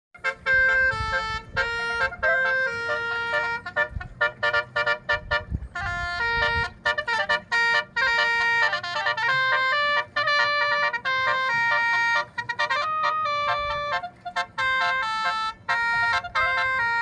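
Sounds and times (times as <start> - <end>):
musical air horn playing a tune: 0.2 - 17.0.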